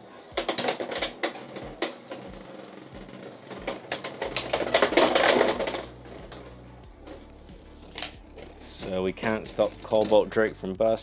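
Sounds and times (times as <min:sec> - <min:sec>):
spinning tops clashing: 0:00.1 - 0:10.2.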